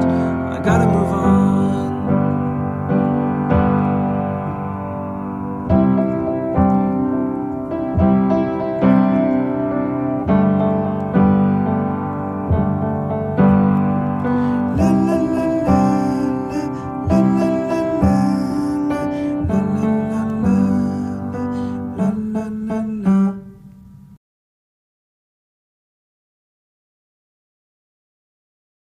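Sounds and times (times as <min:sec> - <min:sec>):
piano chords: 0:00.0 - 0:24.2.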